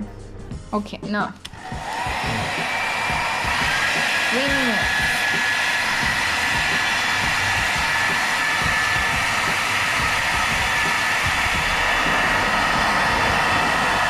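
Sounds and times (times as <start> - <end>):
hair dryer blowing: 1.5 - 14.0.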